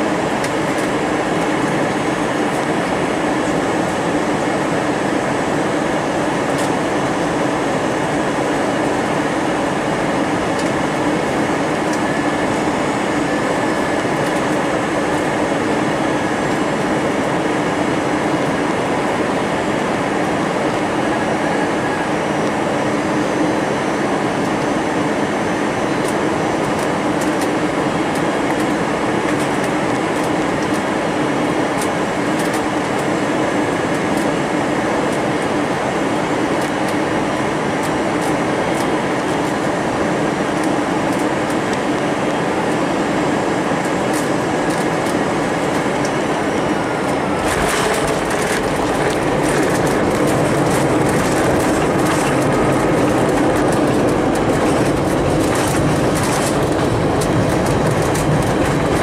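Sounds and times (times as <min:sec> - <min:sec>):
airliner cabin engine noise: 0:00.0 - 0:59.0
rumble and rattling on runway: 0:00.0 - 0:59.0.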